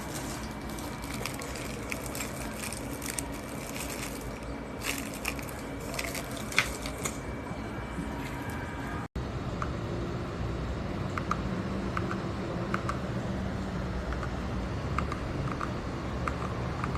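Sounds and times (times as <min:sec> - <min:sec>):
steady background hum: 0:00.0 - 0:16.9.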